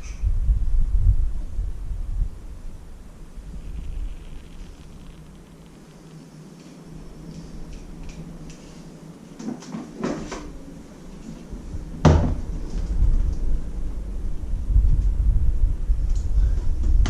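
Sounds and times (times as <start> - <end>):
low rumbling handling noise: 0.0 - 17.0.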